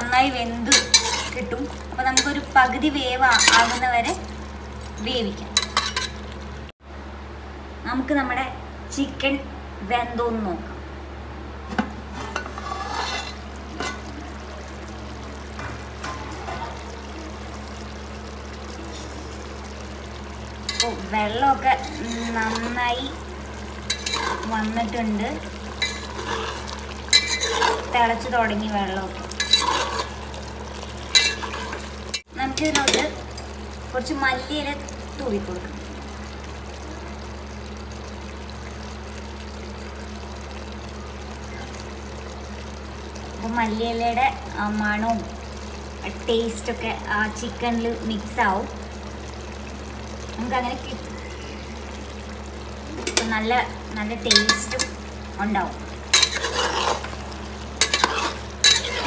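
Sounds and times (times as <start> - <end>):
liquid bubbling in a pot: 0.0 - 6.7, 11.6 - 59.0
steady low hum: 0.0 - 59.0.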